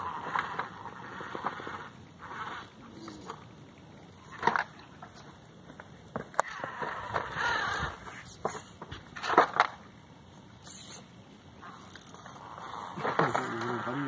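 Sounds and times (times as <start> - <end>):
tyres scraping on rock: 0.0 - 3.5, 4.2 - 9.8, 10.6 - 14.0.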